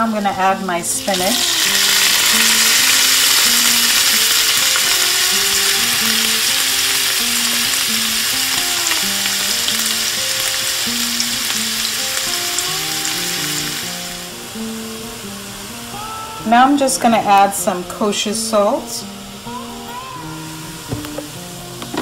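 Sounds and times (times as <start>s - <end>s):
light background music: 0.0s - 22.0s
spinach sizzling in a frying pan: 0.1s - 22.0s.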